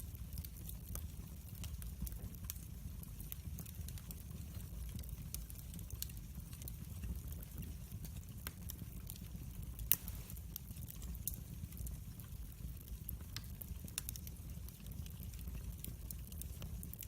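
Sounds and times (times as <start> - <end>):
low steady fire rumble: 0.0 - 17.0
wood fire crackling and popping: 0.0 - 17.0.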